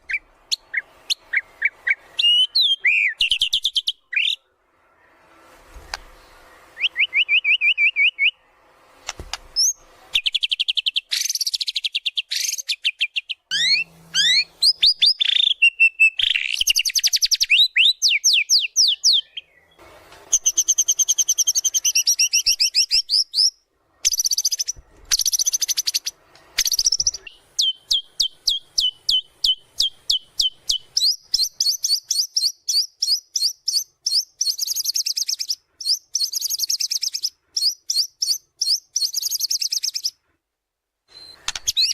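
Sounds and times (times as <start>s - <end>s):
songbird singing whistled phrases: 0.0s - 4.5s, 6.5s - 8.5s, 9.6s - 40.2s, 41.1s - 41.9s.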